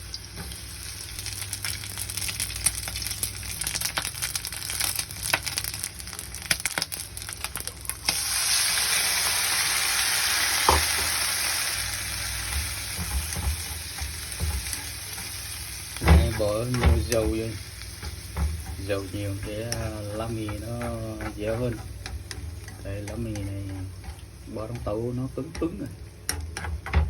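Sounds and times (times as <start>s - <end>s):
noodles sizzling in oil: 0.0s - 27.0s.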